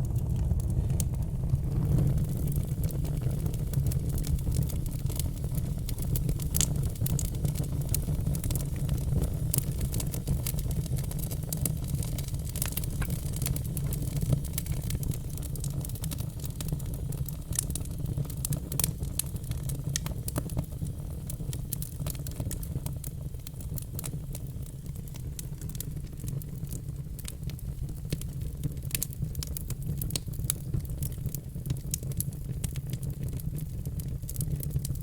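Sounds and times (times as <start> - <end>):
logs crackling and popping: 0.0 - 35.0
low fire rumble: 0.0 - 35.0.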